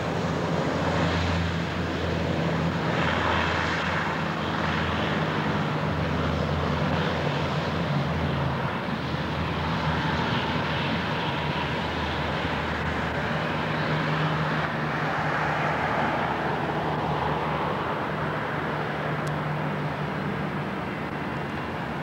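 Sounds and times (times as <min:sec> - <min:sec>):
engine noise rushing: 0:00.0 - 0:22.0
low propeller drone: 0:00.0 - 0:22.0.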